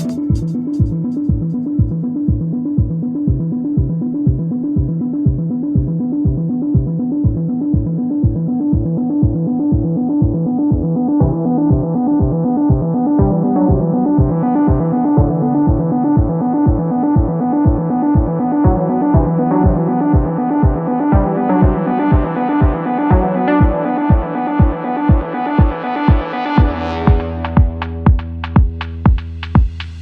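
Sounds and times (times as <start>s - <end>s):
synthesizer and keyboard chords: 0.0s - 29.8s
kick drum beat: 0.0s - 30.0s.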